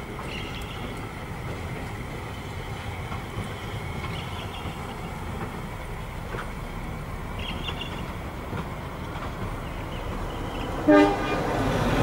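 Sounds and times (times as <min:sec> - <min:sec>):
railcar rumbling past: 0:00.0 - 0:12.0.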